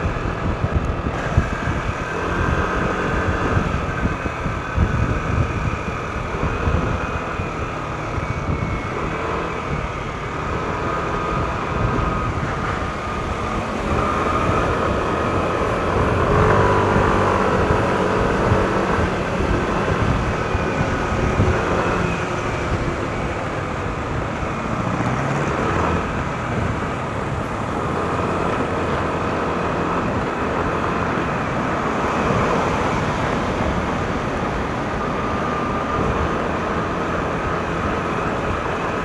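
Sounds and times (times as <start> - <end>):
road and wind noise: 0.0 - 39.0
scooter engine humming: 0.0 - 39.0.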